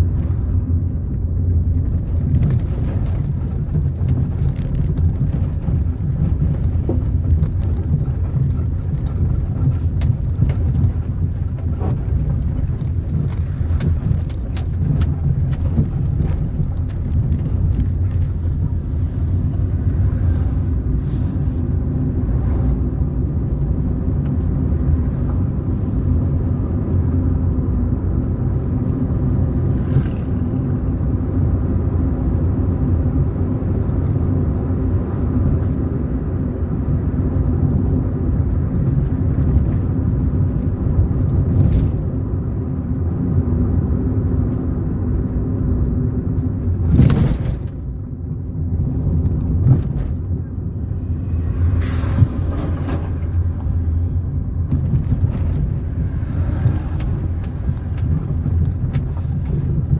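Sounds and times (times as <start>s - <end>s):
car bumps and whooshes: 0.0s - 59.9s
car engine and tyres rumbling: 0.0s - 59.9s.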